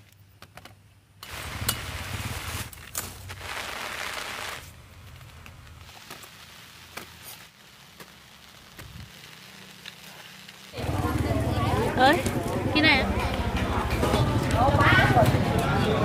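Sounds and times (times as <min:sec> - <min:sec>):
rain falling: 0:01.2 - 0:16.0.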